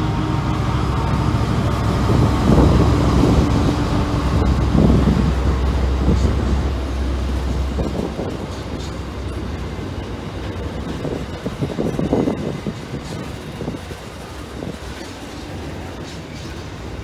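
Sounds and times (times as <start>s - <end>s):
locomotive engine drone: 0.0s - 17.0s
wagon wheels rumbling on rails: 0.0s - 17.0s.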